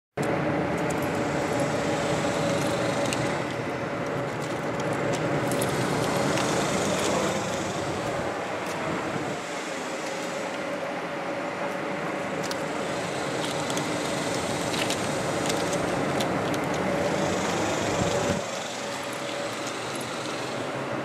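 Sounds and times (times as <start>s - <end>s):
steady background hum: 0.2s - 21.0s.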